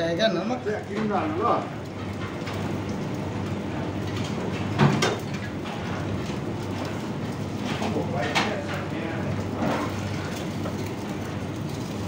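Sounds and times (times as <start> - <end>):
exhaust fan and gas burners rumble: 0.0 - 12.0.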